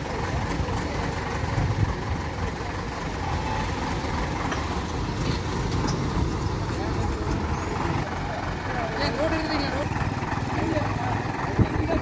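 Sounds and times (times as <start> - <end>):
diesel truck engine driving past: 0.0 - 12.0.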